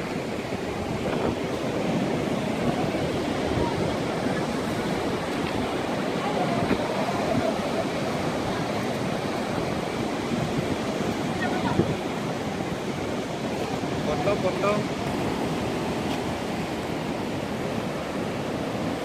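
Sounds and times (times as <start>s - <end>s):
ocean surf breaking over rocks: 0.0s - 19.0s
wind rumbling on microphone: 0.0s - 19.0s.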